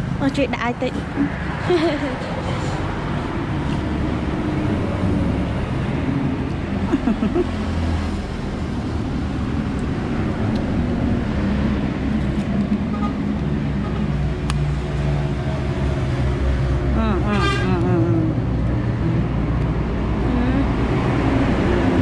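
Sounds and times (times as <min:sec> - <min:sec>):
passing traffic rumble: 0:00.0 - 0:22.0.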